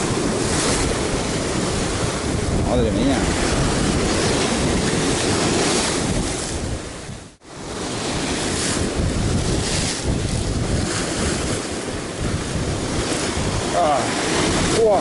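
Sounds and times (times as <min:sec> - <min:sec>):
surf breaking against rocks: 0:00.0 - 0:15.0
wind buffeting microphone: 0:00.0 - 0:15.0.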